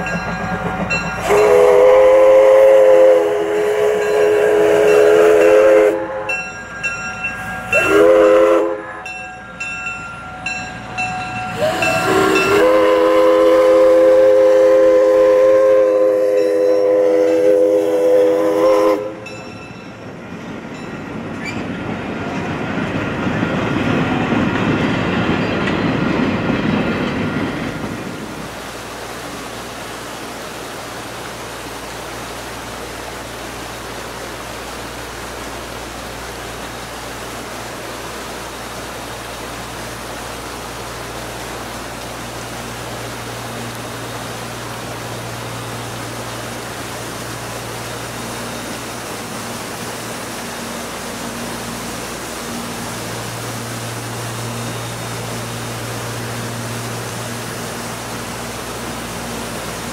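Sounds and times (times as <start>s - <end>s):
steady rushing hiss with hum: 0.0s - 59.9s
train coaches rumbling past: 0.0s - 59.9s.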